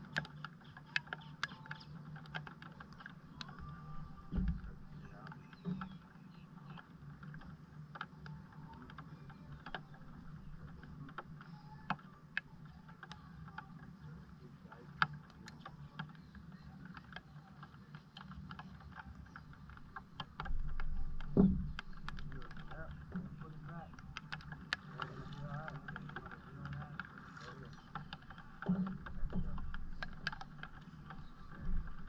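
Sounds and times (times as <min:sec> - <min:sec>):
light irregular clicks and taps: 0:00.0 - 0:32.0
steady low hum: 0:00.0 - 0:32.0.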